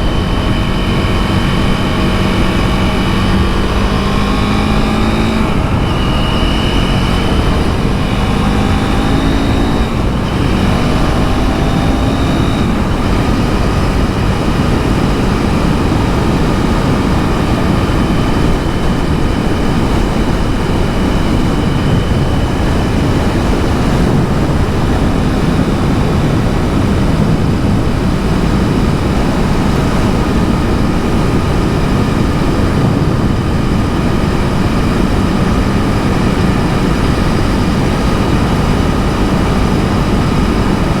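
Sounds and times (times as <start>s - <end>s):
motorcycle engine revving: 0.0s - 41.0s
road noise: 0.0s - 41.0s
rush of wind: 0.0s - 41.0s.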